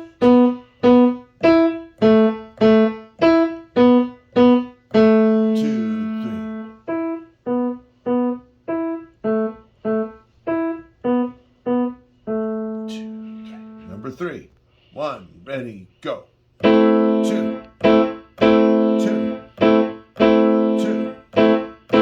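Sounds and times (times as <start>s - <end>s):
piano playing single notes: 0.0s - 14.1s, 16.6s - 22.0s.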